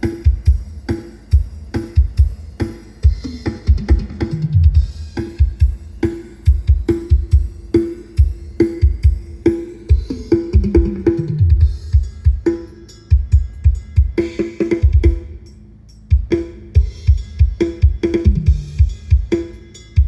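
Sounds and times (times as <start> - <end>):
drum fills: 0.0 - 15.5, 16.1 - 20.0
drum kit through pa system: 0.0 - 20.0.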